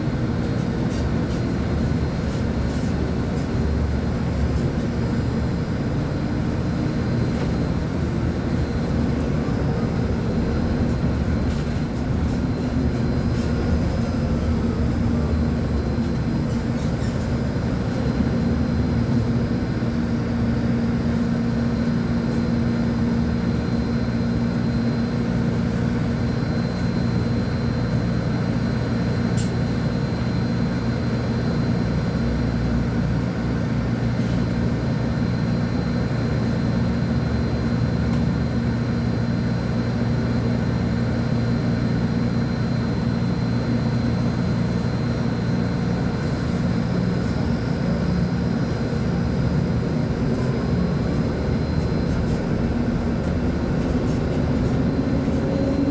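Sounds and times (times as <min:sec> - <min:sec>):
bus diesel engine droning: 0:00.0 - 0:55.9.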